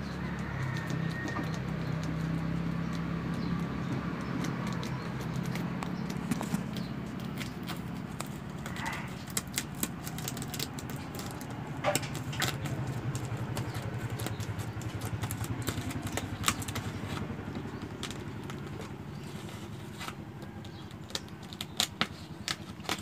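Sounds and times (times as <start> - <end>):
small engine droning: 0.0 - 23.0.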